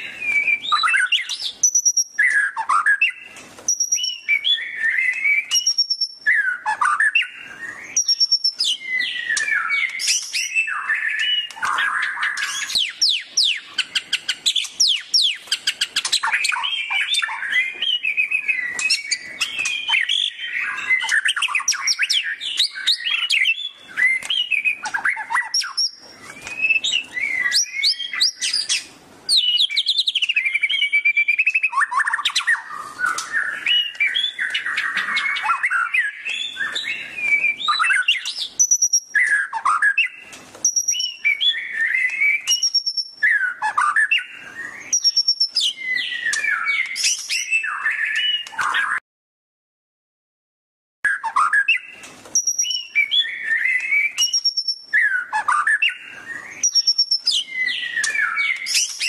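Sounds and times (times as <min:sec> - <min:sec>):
songbird singing whistled trills: 0:00.0 - 0:49.0, 0:51.1 - 0:59.0.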